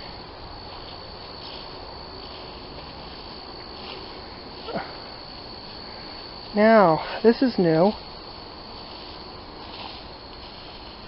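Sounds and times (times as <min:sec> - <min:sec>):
background hiss: 0:00.0 - 0:11.0
insects trilling: 0:00.0 - 0:11.0.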